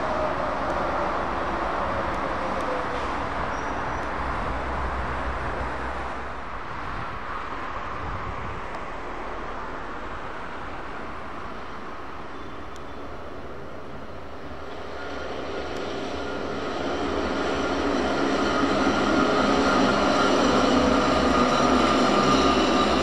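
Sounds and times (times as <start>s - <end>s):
road traffic with heavy trucks: 0.0s - 23.0s.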